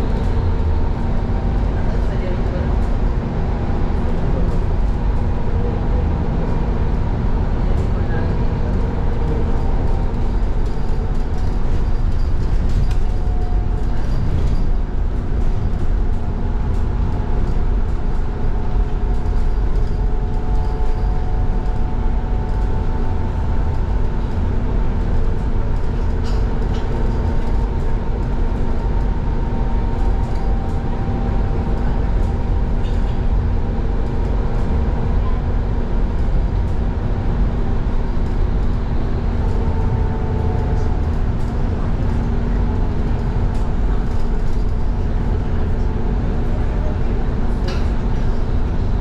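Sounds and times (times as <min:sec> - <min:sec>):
low road rumble: 0:00.0 - 0:49.0.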